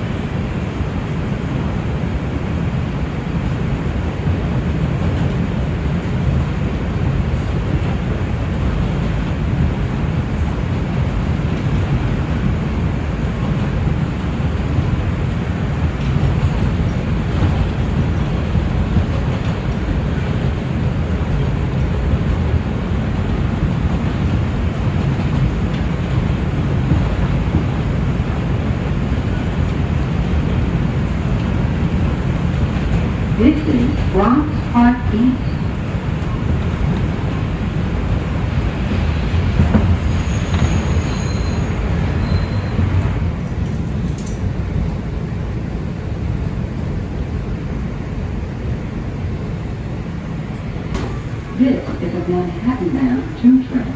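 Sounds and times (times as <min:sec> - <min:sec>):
subway train wheels rumbling on rails: 0:00.0 - 0:53.9.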